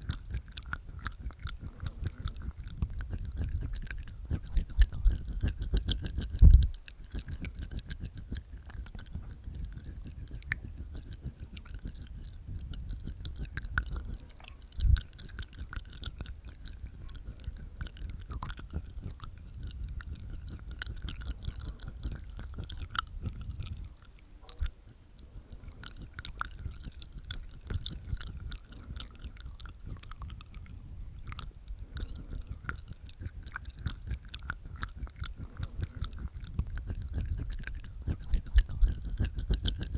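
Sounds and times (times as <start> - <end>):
teeth tapping: 0.0 - 39.9
wet tongue clicks: 0.0 - 39.9.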